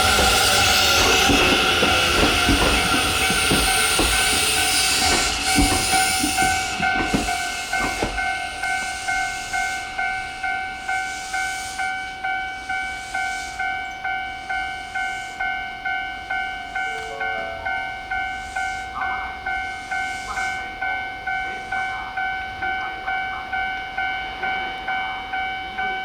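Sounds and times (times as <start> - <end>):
train wheels clicking over rail joints: 0.0 - 25.0
crossing warning bell ringing: 0.0 - 26.0.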